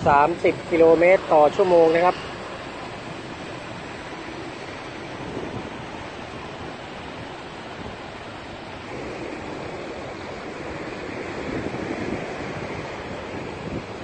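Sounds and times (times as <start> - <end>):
highway traffic hum: 0.0 - 14.0
wind on microphone: 0.0 - 14.0.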